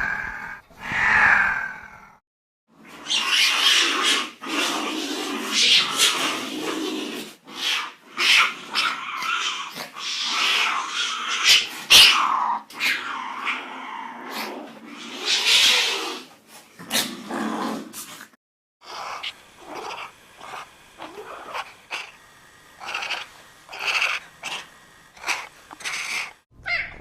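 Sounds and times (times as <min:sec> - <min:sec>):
cats growling and calling: 0:00.0 - 0:02.2, 0:02.8 - 0:16.3, 0:18.8 - 0:22.2, 0:22.8 - 0:27.0.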